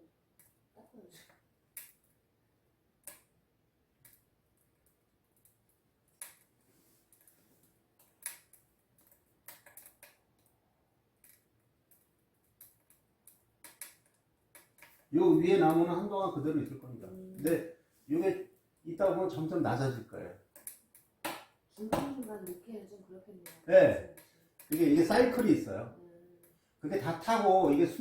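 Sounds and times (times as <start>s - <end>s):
wood fire crackling in stove: 1.3s - 25.8s, 26.4s - 28.0s.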